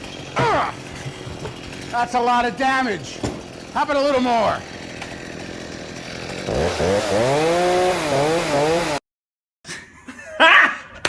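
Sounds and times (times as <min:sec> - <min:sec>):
chainsaw revving: 0:00.0 - 0:09.0.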